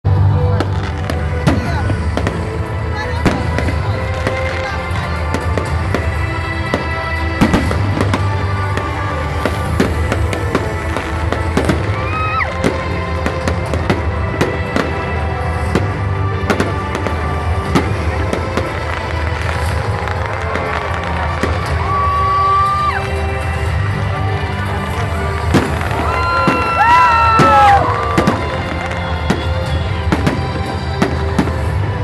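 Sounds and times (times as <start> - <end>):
fireworks bangs and crackling: 0.0 - 32.0
music playing: 0.0 - 32.0.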